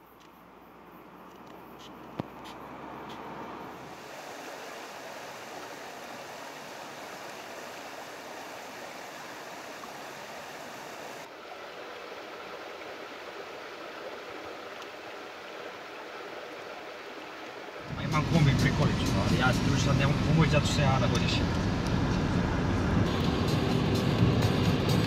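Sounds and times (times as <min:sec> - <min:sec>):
stream splashing over rocks: 0:02.1 - 0:22.8.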